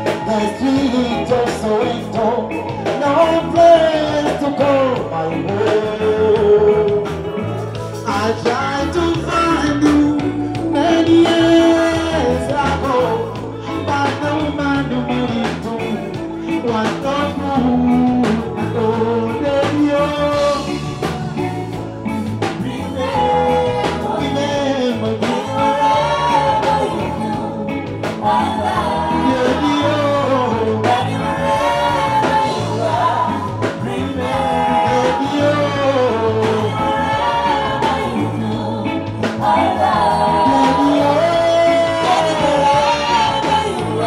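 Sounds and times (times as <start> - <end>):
bass guitar: 0.0 - 44.0
drums: 0.0 - 44.0
person singing: 0.0 - 44.0.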